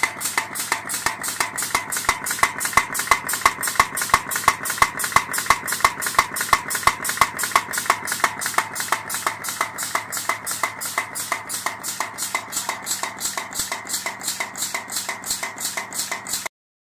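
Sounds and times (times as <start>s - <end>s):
machine die clicking metallically: 0.5s - 16.5s.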